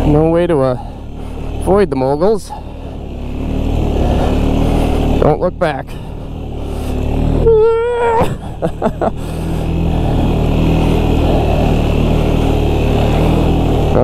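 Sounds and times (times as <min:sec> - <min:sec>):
quad bike engine pulling under load: 0:00.0 - 0:14.0.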